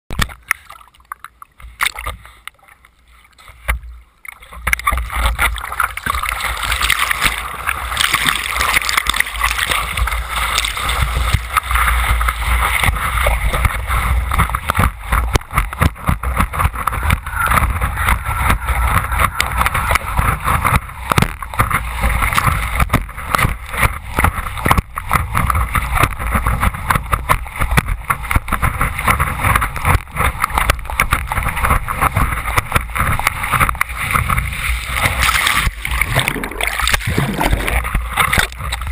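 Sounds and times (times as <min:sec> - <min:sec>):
ocean water splashing on surfboard: 0:00.1 - 0:38.9.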